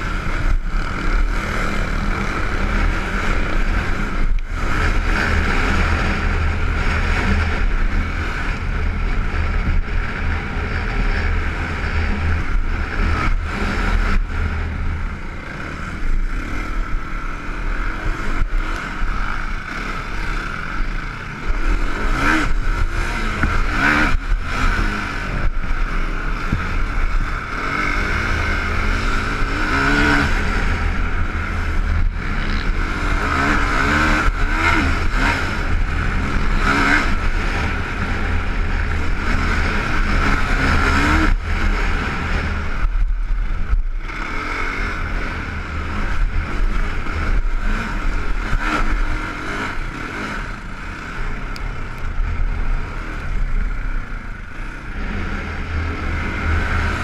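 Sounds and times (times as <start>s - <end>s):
quad engine revving: 0.0s - 57.0s
wind rumble on microphone: 0.0s - 57.0s.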